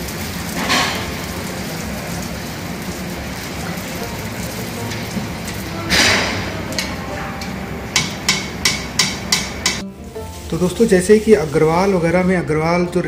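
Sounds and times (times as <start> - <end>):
deep-frying sizzle in hot oil: 0.0 - 12.2.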